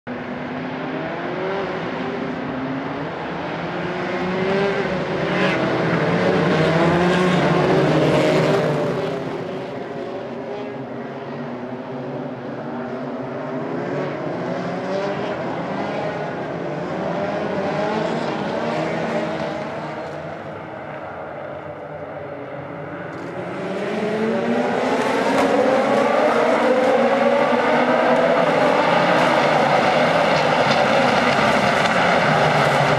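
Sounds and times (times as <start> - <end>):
race car engines: 0.1 - 32.9.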